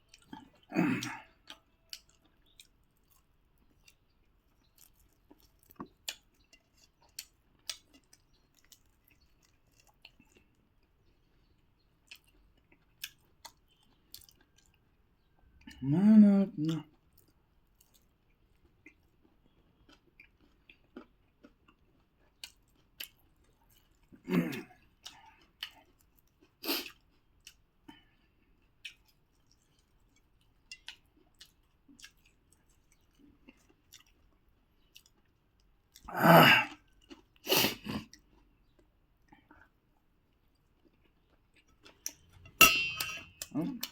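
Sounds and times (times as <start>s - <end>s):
chewing and eating: 0.0s - 15.9s, 16.5s - 43.9s.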